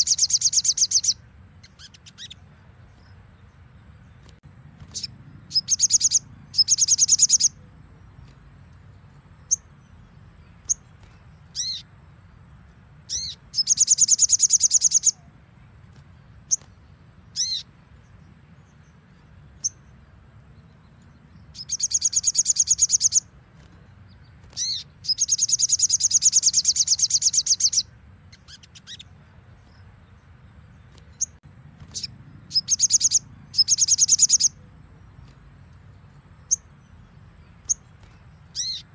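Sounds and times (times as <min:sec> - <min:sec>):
bird chips: 0:00.0 - 0:03.2, 0:04.1 - 0:11.9, 0:13.1 - 0:17.7, 0:21.0 - 0:29.9, 0:30.6 - 0:38.9.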